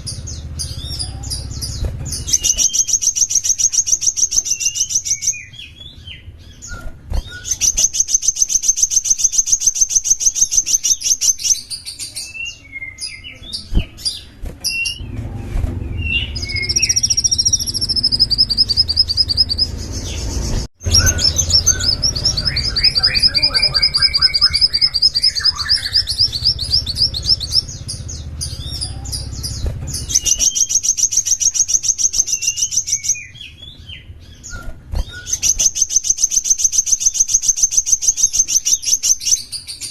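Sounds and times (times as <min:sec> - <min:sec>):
songbird trilling and chirping: 0:00.0 - 0:15.1, 0:15.8 - 0:39.9.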